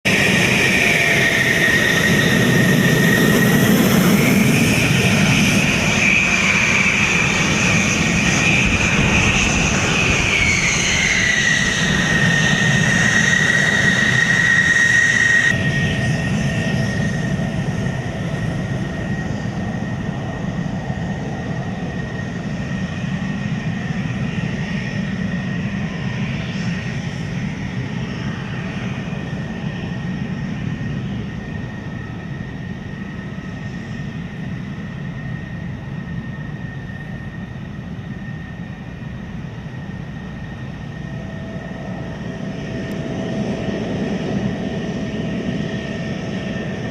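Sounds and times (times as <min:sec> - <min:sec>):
jet engine roaring and whining: 0:00.0 - 0:46.9.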